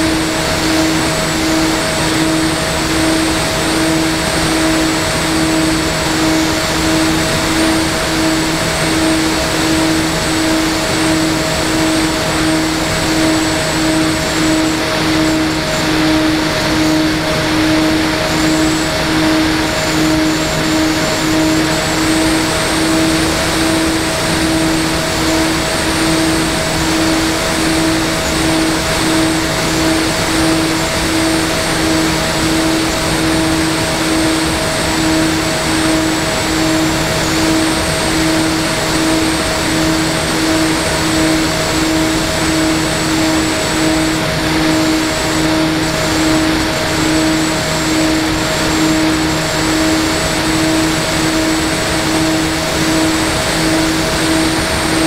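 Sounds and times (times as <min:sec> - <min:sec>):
high motor whine: 0:00.0 - 0:55.0
model aircraft propeller drone: 0:00.0 - 0:55.0.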